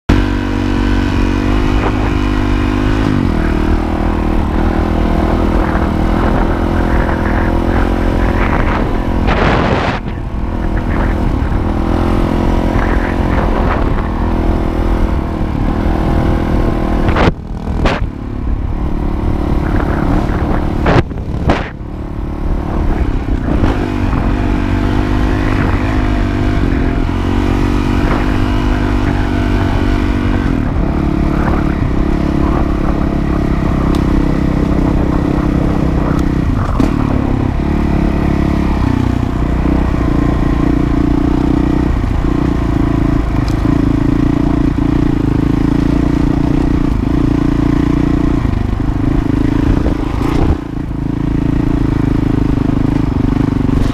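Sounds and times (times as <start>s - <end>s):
dirt bike engine running: 0.1s - 53.9s.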